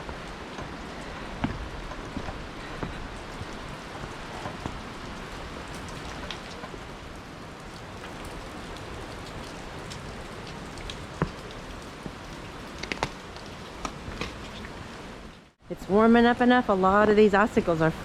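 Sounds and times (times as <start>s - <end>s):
meltwater dripping: 0.0s - 15.6s.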